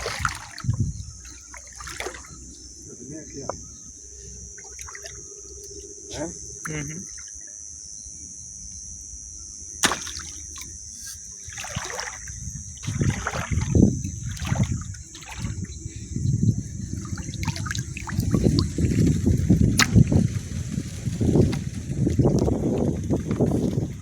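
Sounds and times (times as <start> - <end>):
water sloshing and splashing: 0.0 - 7.6, 9.8 - 24.0
night insects chirring: 0.0 - 24.0.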